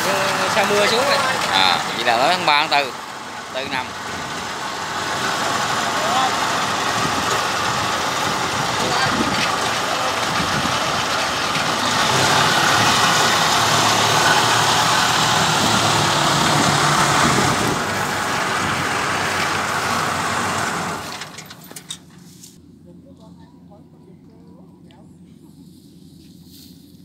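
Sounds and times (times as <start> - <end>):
tracked vehicle engine running: 0.0 - 27.0.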